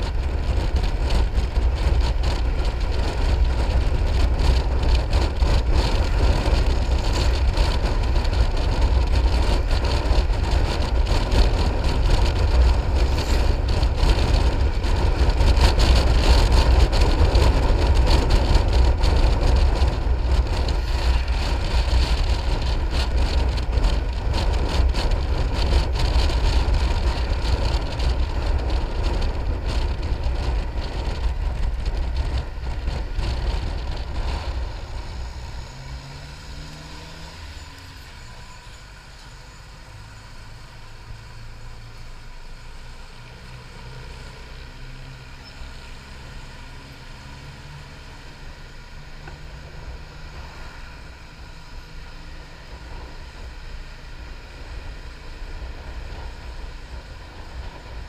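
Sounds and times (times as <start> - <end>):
scooter road and tyre noise: 0.0 - 58.0
wind rushing over microphone: 0.0 - 58.0.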